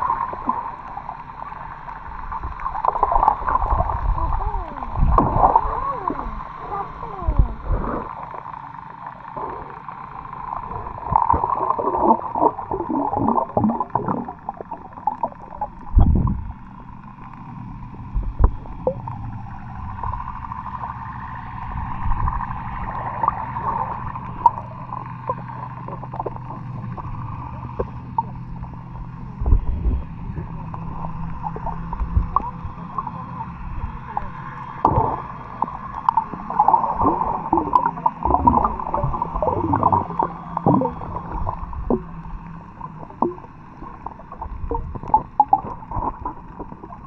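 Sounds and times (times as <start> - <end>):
steady low hum: 0.0 - 47.0
underwater gurgling and bubbling: 0.0 - 47.0.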